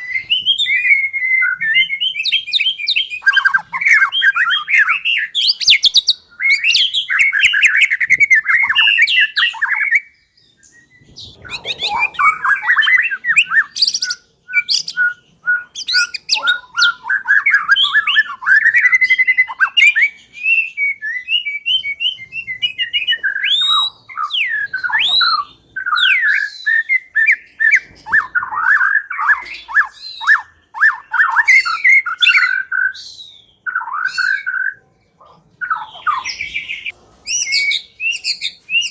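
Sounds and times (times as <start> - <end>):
bird singing whistles and trills: 0.0 - 34.8, 35.6 - 38.9.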